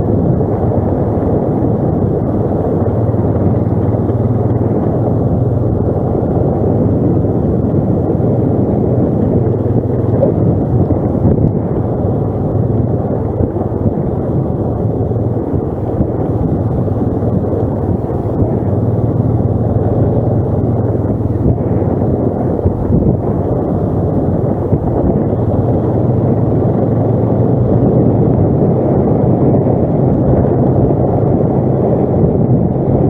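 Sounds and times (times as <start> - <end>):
atv engine rumbling: 0.0 - 33.0.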